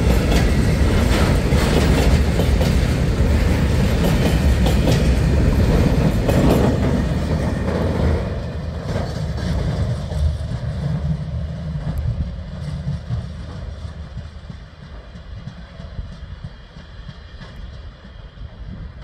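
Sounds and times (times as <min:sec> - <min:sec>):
train wagons rumbling on rails: 0:00.0 - 0:19.0.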